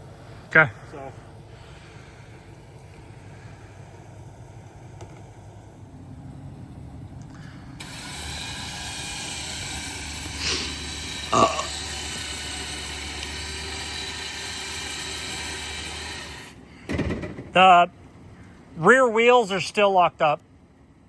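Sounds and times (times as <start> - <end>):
winch motor running: 0.0 - 19.6.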